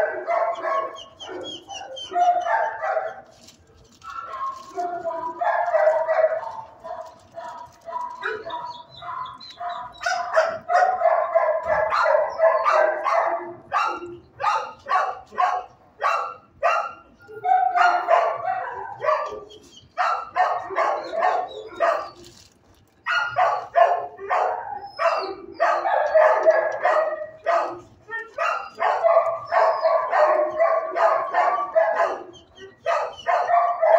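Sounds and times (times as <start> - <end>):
dogs barking: 0.0 - 22.4, 23.0 - 33.9.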